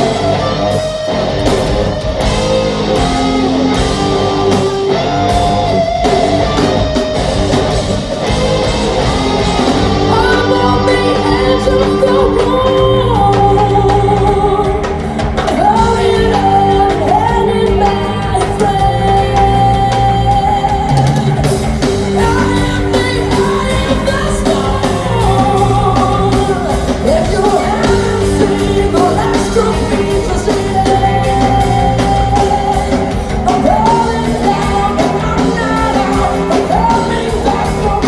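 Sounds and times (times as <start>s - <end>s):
hard rock band playing live: 0.0s - 38.0s
singer holding long notes: 0.0s - 38.0s.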